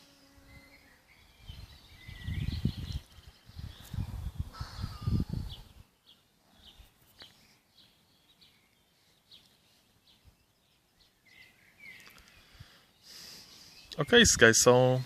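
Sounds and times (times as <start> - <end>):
faint small bird chirps: 0.0 - 12.6.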